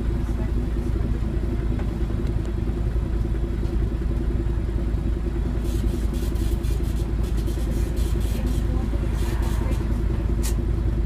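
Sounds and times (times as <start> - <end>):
bus diesel engine idling: 0.0 - 11.0.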